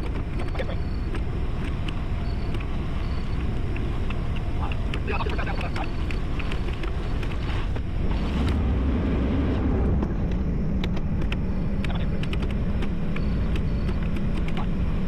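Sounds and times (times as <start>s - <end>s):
sharp clicks and clatter: 0.0s - 8.6s, 10.2s - 14.7s
diesel engine under load: 0.0s - 15.0s.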